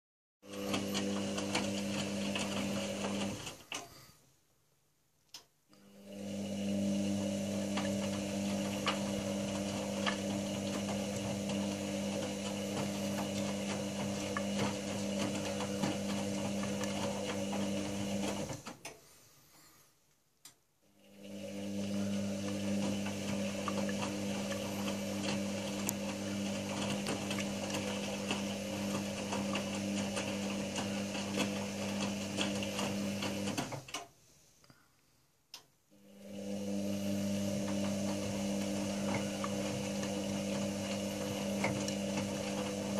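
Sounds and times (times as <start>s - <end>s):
washing machine drum motor humming: 0.4s - 3.8s, 5.8s - 18.9s, 20.9s - 34.1s, 36.0s - 42.9s.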